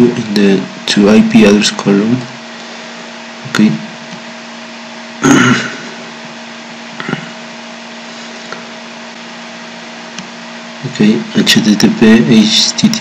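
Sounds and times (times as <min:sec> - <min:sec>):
microphone electrical hum and hiss: 0:00.0 - 0:13.0.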